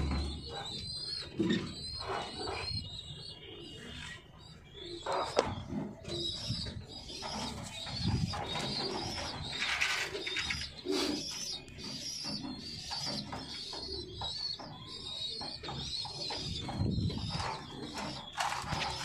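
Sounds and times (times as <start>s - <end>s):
high chirping: 0.0s - 19.0s
pigeons cooing: 0.0s - 19.0s.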